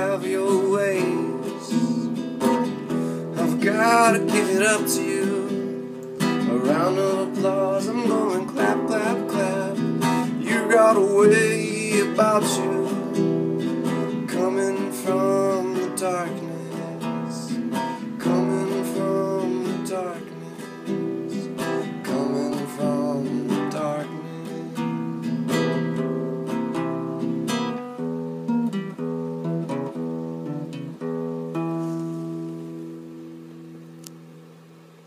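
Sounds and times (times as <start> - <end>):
acoustic guitar strumming chords: 0.0 - 35.0.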